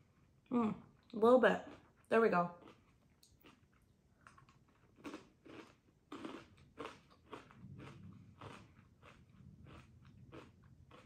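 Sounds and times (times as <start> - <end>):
chewing crispy corn puffs: 1.7 - 11.0.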